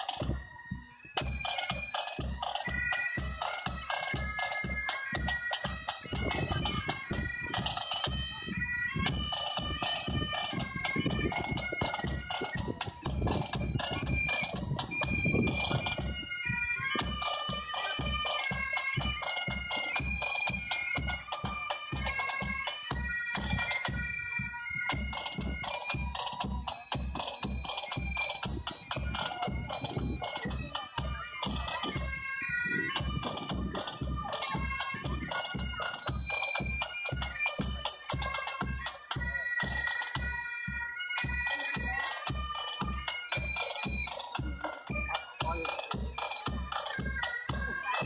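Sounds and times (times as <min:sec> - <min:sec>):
bagpipes playing: 0:00.0 - 0:48.0
drums keeping a beat: 0:00.0 - 0:48.0.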